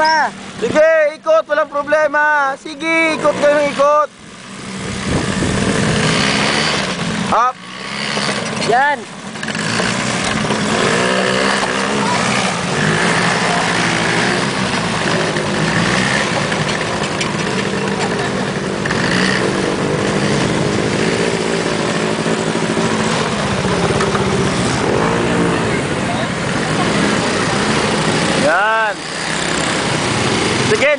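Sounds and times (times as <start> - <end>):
atv engines revving: 0.0 - 30.9.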